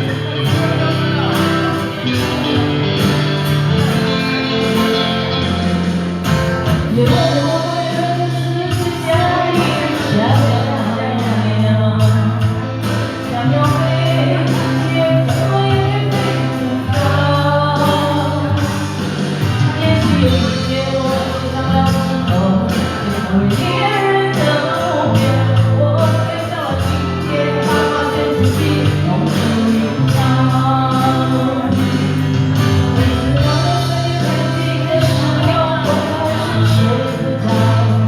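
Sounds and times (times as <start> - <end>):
person singing: 0.0 - 5.8, 6.6 - 38.0
live pop band playing: 0.0 - 38.0.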